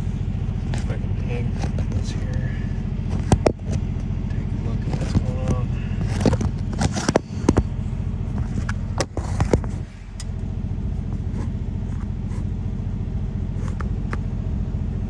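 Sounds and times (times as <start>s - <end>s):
loader engine idling: 0.0s - 15.0s.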